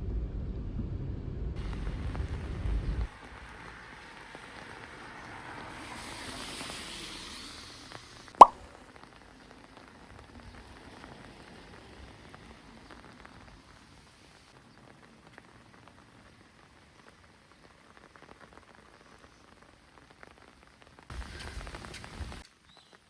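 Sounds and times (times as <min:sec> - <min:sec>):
faint rain falling: 0:01.3 - 0:23.0
raindrop ticks: 0:01.6 - 0:06.9, 0:07.9 - 0:23.0.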